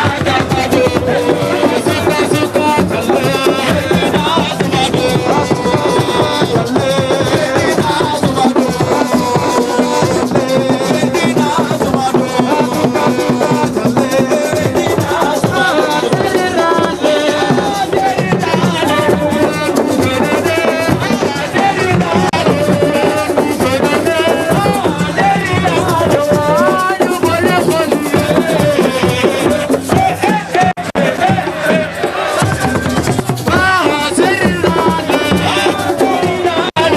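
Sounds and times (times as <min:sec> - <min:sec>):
drums beating: 0:00.0 - 0:36.9
voices singing: 0:00.0 - 0:36.9.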